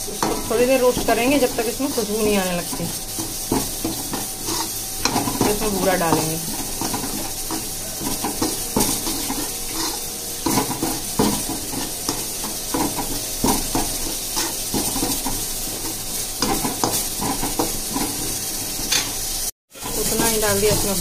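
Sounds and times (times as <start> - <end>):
frying sizzle: 0.0 - 21.0
metal spatula scraping pan: 0.0 - 21.0.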